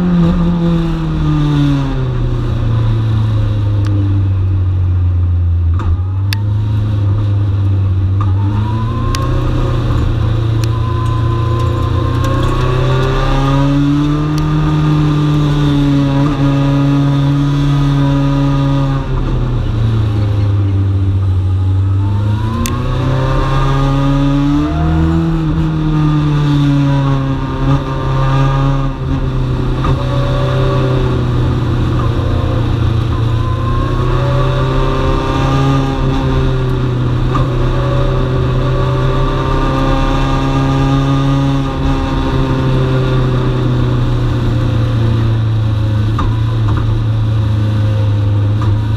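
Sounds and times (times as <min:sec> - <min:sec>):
race car engine revving: 0:05.7 - 0:48.9.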